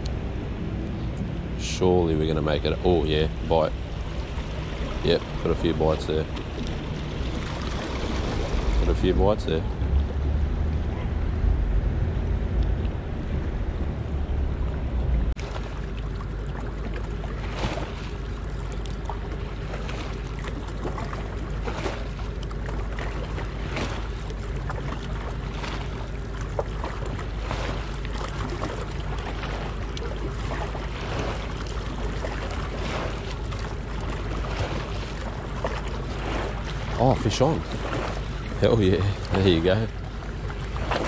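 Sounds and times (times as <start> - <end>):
small waves lapping: 0.0 - 41.0
wind rumbling on microphone: 0.0 - 41.0.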